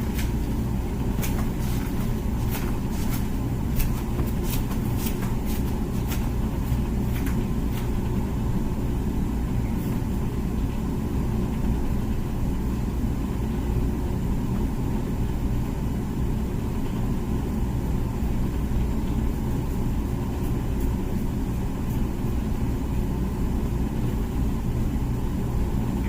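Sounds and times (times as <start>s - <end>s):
dishwasher pump motor humming: 0.0s - 26.0s.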